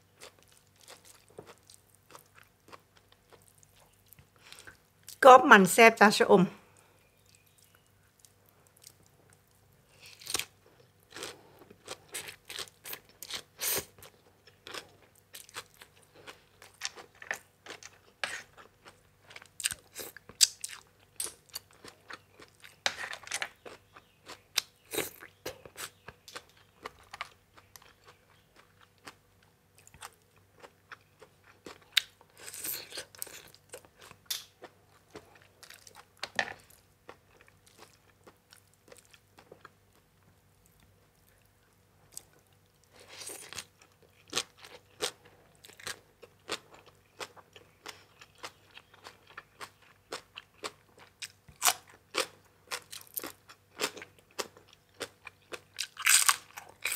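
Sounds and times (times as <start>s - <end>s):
person chewing crunchy food: 0.0s - 5.2s, 7.1s - 56.9s.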